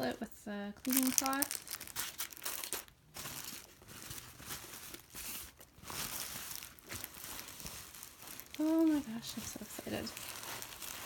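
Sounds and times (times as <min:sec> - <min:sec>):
tissue paper rustling: 0:00.8 - 0:11.0.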